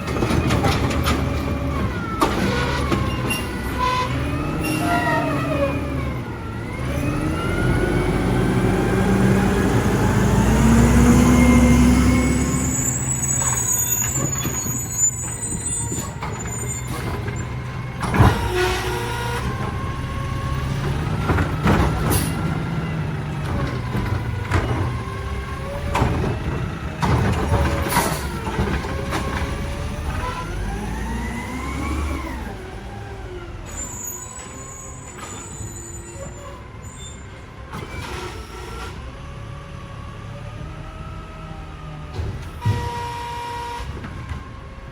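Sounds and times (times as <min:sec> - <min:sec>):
garbage truck engine revving: 0:00.0 - 0:36.8.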